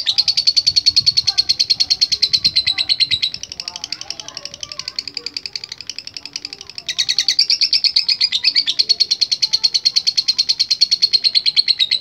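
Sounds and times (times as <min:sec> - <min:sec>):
lovebird chattering trill: 0:00.0 - 0:12.0.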